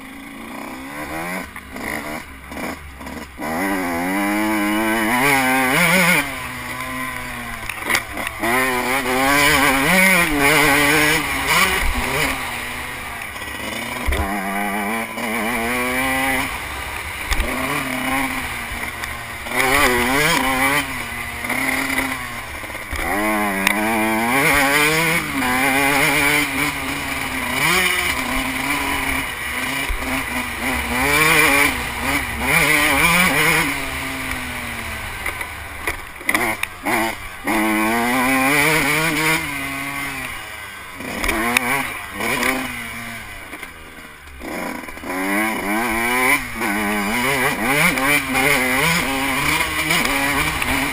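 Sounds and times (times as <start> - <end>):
motocross engine revving: 0.0 - 50.9.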